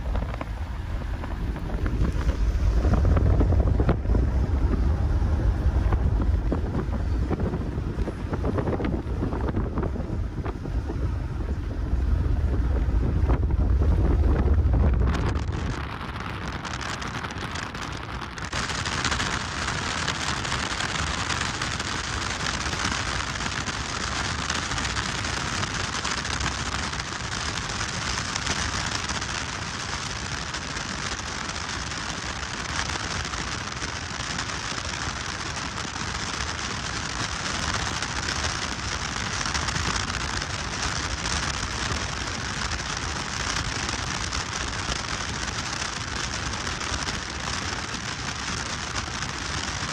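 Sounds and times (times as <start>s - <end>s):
wind and road noise inside car: 0.0s - 49.9s.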